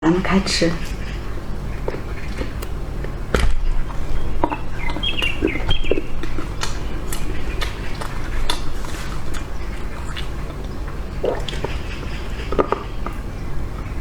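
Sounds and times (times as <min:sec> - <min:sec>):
chewing ice cream: 0:00.8 - 0:14.0.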